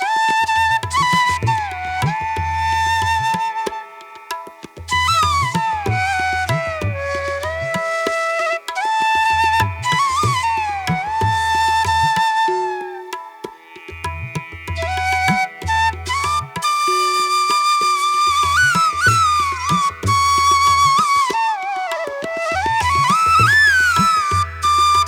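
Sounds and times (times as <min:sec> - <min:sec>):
ornamented melody: 0:00.0 - 0:25.0.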